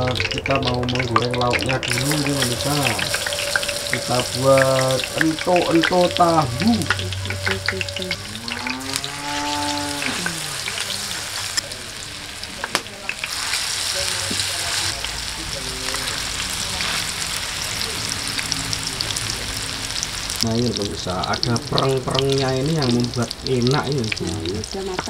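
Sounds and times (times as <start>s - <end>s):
food deep-frying in hot oil: 0.0s - 25.0s.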